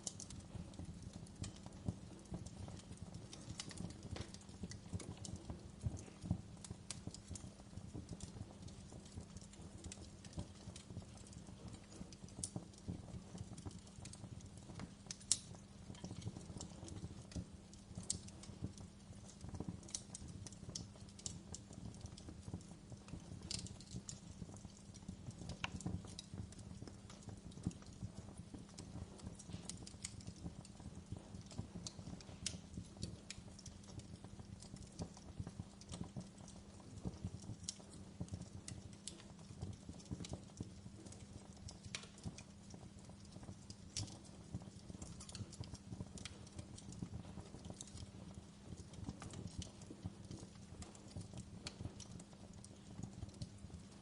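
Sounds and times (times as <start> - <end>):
low fire rumble: 0.0 - 54.0
wood fire crackling and popping: 0.0 - 54.0.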